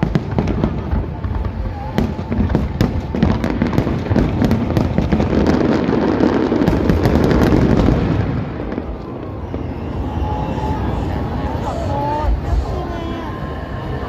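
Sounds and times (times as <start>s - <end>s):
fireworks bangs: 0.0s - 12.9s
fireworks crackling: 0.0s - 14.0s.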